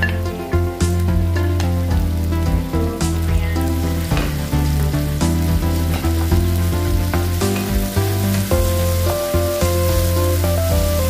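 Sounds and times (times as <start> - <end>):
background music with bass line: 0.0 - 11.0
onions and tomato sizzling in a pan: 0.0 - 11.0.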